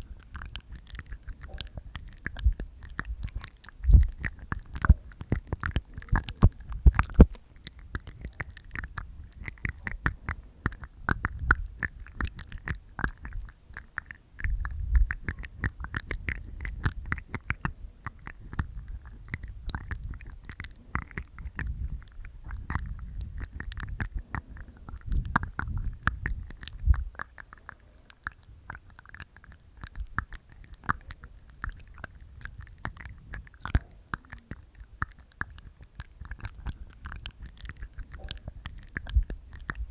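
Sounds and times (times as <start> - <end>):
teeth taps: 0.0 - 39.9
tongue clicks: 0.0 - 39.9.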